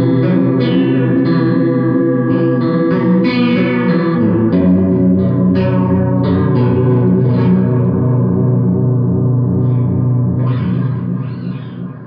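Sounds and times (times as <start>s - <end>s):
electric guitar chords with chorus: 0.0s - 12.0s.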